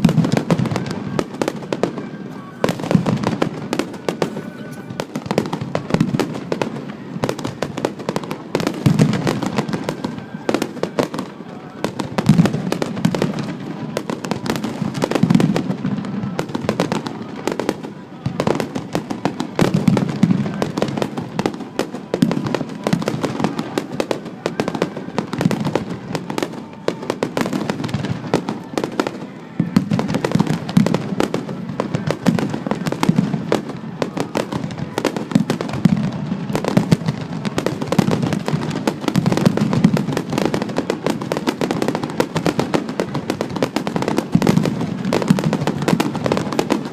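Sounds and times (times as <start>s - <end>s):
deep fireworks booms: 0.0s - 46.9s
fireworks bangs and crackles: 0.0s - 46.9s.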